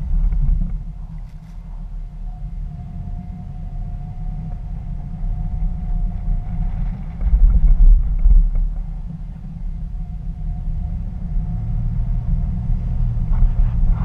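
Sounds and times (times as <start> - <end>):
engine and tyres rumbling: 0.0 - 14.0
faint whine: 0.0 - 14.0.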